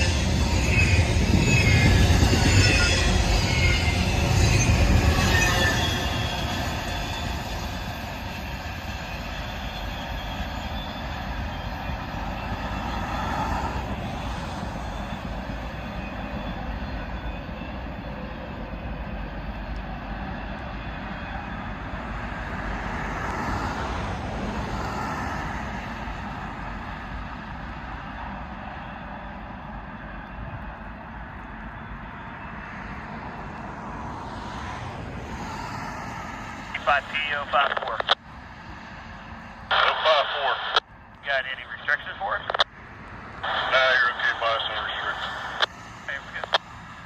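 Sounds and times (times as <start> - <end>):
freight train passing on rails: 0.0 - 47.0.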